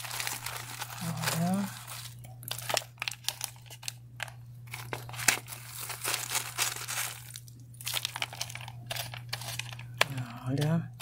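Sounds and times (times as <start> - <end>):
bark chunks crunching in plastic pot: 0.0 - 11.0.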